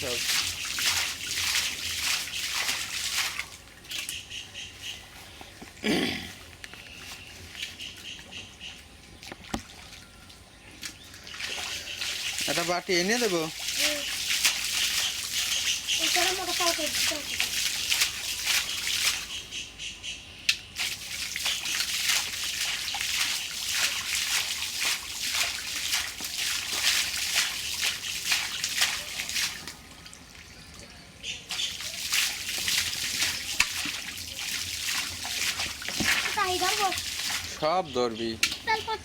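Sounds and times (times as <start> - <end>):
muddy water splashing: 0.0 - 19.7, 20.6 - 39.0.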